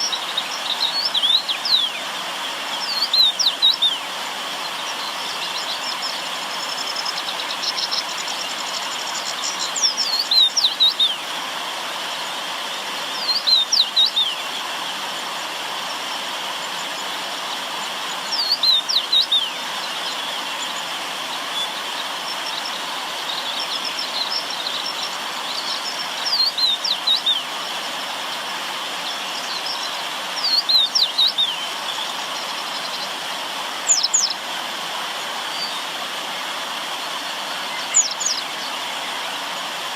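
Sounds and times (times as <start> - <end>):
faint bird twittering: 0.0 - 11.4, 12.1 - 34.4, 35.1 - 36.0, 37.0 - 39.7
river water flowing: 0.0 - 39.9.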